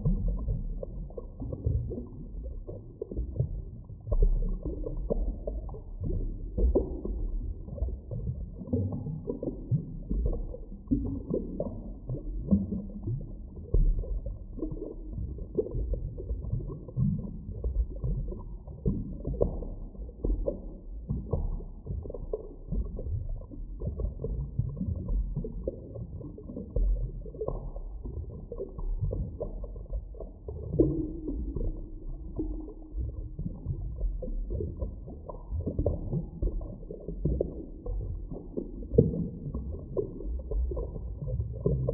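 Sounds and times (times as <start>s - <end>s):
deep underwater rumble: 0.0s - 41.9s
underwater bubbling and gurgling: 0.0s - 41.9s.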